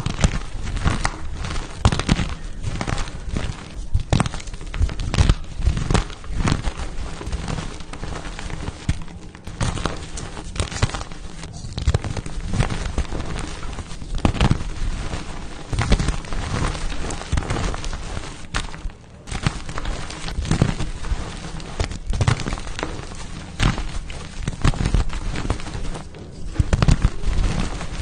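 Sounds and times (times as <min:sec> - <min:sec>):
chalk blocks crunching and crumbling: 0:00.0 - 0:28.0.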